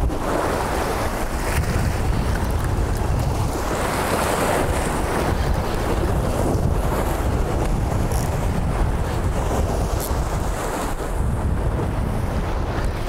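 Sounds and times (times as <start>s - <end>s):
waves breaking against rocks: 0.0s - 13.0s
wind buffeting microphone: 0.0s - 13.0s.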